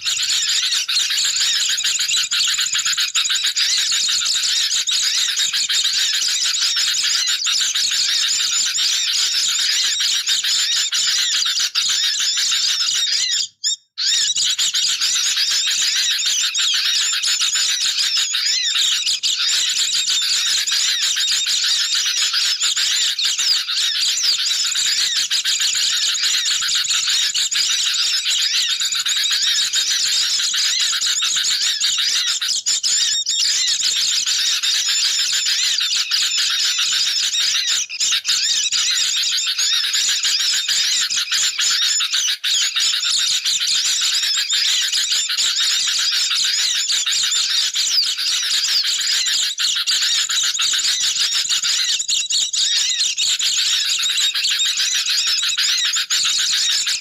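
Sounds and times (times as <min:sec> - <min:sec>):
chattering bird calls: 0:00.0 - 0:57.0.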